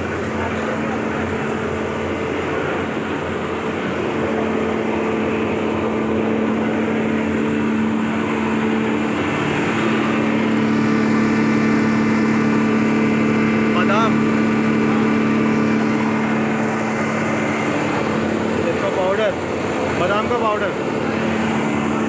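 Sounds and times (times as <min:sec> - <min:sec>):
grinder motor hum: 0:00.0 - 0:22.0.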